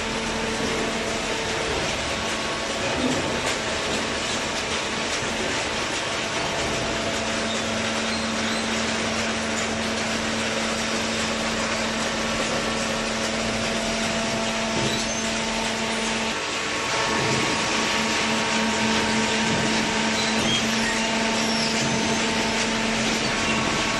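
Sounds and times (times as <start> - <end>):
baler machine running: 0.0 - 23.9
hydraulic unit hum: 0.0 - 23.9.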